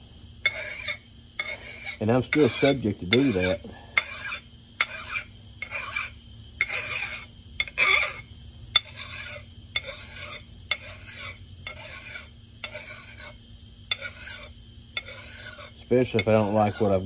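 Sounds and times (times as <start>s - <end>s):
file rasping on steel: 0.4s - 17.0s.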